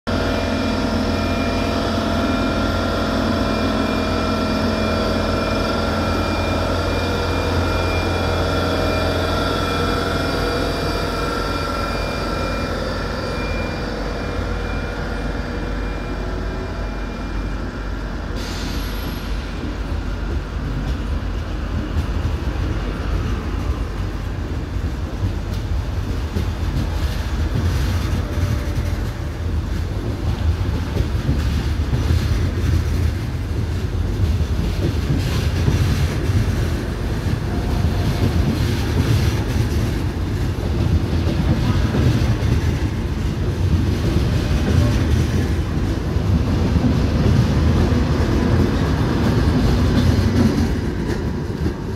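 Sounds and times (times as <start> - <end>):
train coaches rumbling: 0.1 - 51.9
train power car whining: 0.1 - 51.9.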